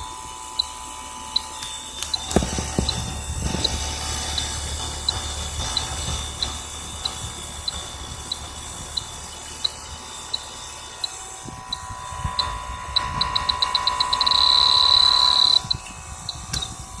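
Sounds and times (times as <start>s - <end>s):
high-pitched alarm tone: 0.0s - 17.0s
leak detector ticking: 0.0s - 17.0s.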